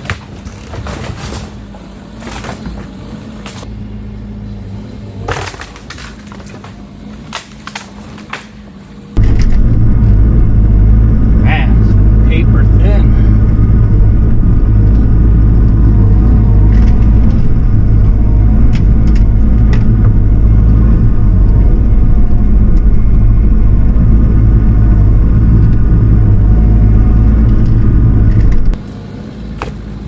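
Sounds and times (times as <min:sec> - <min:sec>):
diesel engine running under load: 0:01.6 - 0:07.4, 0:08.6 - 0:30.0.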